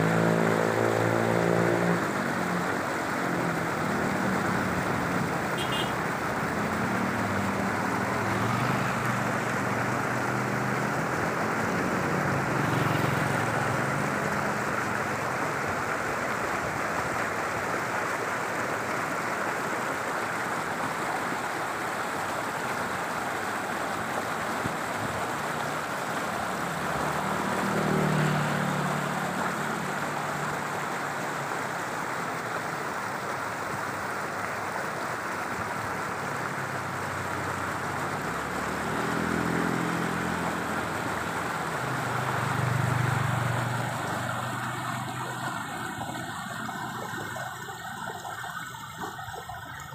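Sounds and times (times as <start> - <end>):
passing vehicles engine hum: 0.0 - 49.9.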